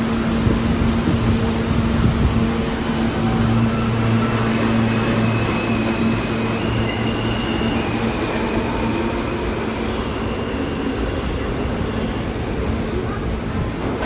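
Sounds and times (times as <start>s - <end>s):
subway train wheels rumbling on rail: 0.0s - 14.0s.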